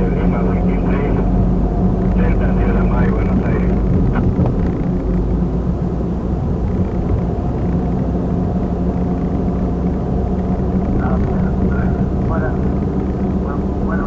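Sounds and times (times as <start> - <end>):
car cabin road and engine noise: 0.0 - 14.0
constant low drone: 0.0 - 14.0.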